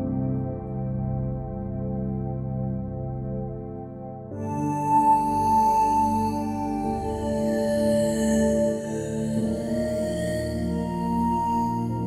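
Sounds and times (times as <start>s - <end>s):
calm meditation music: 0.0s - 12.0s.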